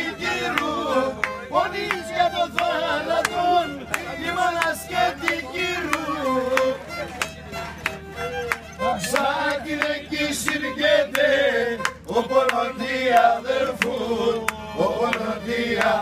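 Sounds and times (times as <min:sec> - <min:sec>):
men singing folk song: 0:00.0 - 0:07.1, 0:08.8 - 0:16.0.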